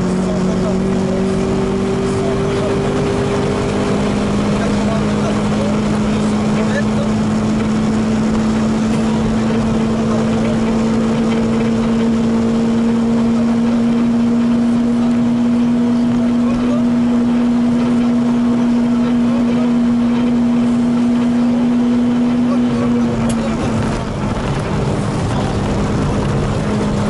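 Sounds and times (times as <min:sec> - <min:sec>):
car engine pulling hard: 0:00.0 - 0:27.0
tyre and road noise: 0:00.0 - 0:27.0.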